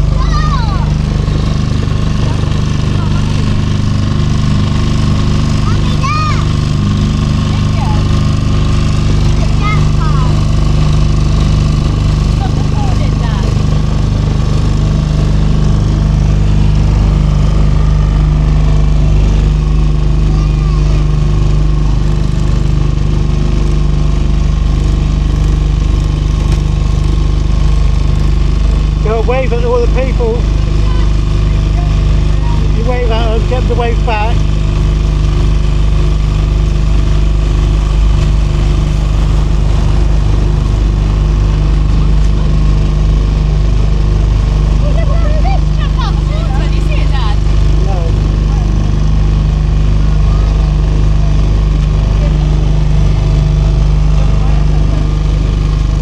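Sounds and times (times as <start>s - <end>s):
motor boat engine humming: 0.0s - 56.0s.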